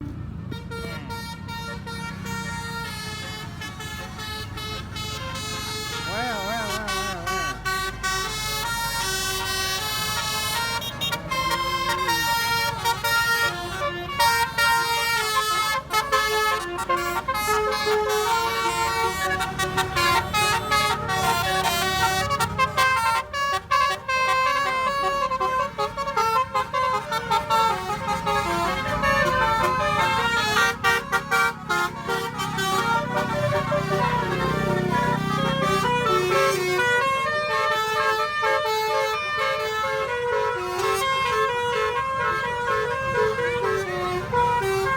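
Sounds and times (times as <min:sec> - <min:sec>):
multi-tone bus horn tune: 0:00.0 - 0:44.9.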